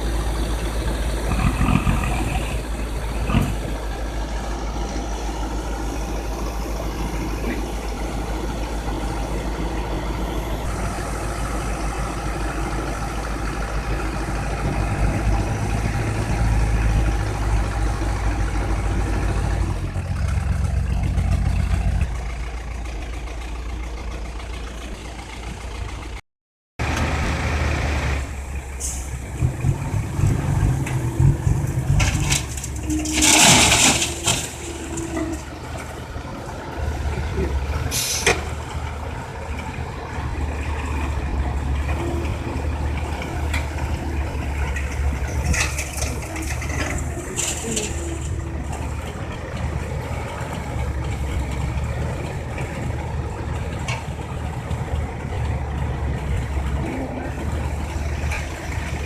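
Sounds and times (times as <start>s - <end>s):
heavy diesel machinery running: 0.0s - 26.2s, 26.8s - 59.0s.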